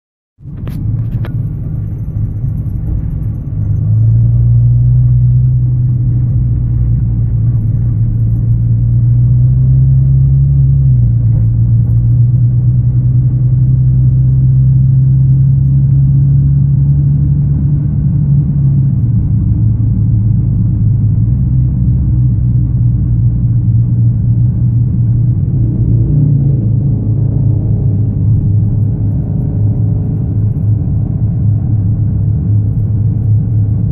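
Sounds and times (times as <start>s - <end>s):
car engine droning: 0.4s - 33.9s.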